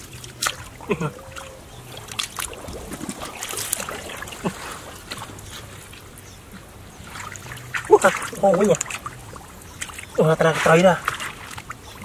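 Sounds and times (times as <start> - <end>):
hands sloshing in muddy water: 0.0 - 12.0
small water splashes and drips: 0.0 - 12.0.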